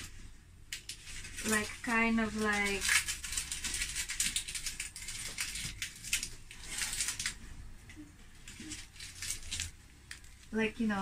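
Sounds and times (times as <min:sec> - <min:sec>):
onion skins crackling: 0:00.0 - 0:11.0.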